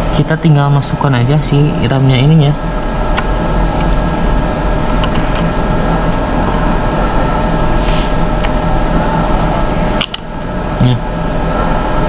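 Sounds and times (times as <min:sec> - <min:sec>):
loud mechanical hum: 0:00.0 - 0:12.0.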